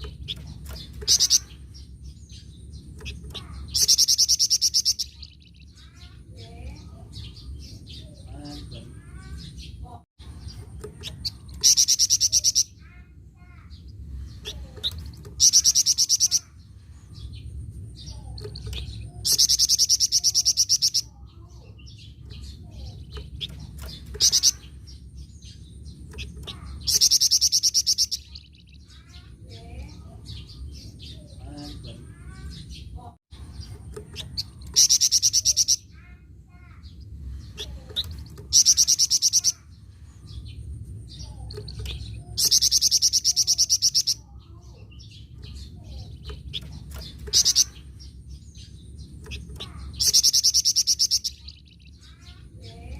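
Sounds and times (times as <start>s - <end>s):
songbird trilling: 0.0s - 9.7s, 10.4s - 52.9s
soft bird chirps: 0.0s - 52.9s.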